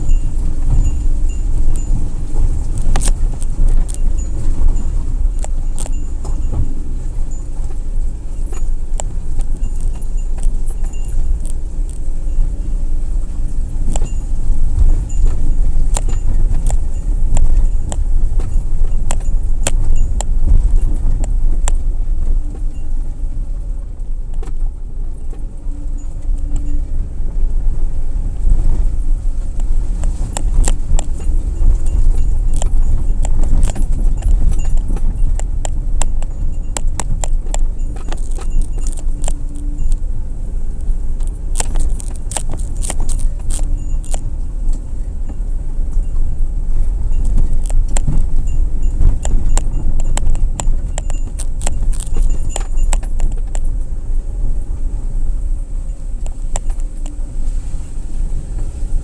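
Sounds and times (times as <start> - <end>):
sharp clicks and rattles: 0.0 - 22.9, 27.7 - 57.3
car rumbling over gravel: 0.0 - 59.0.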